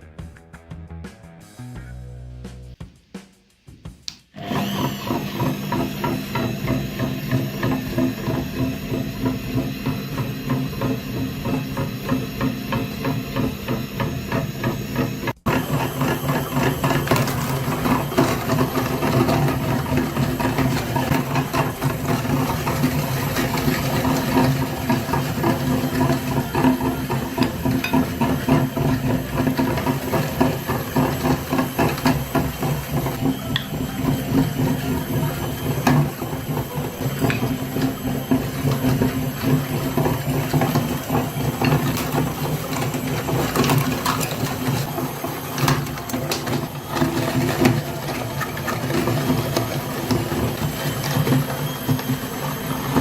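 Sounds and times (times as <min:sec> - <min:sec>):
small motor with gear clatter: 0:04.4 - 0:53.0.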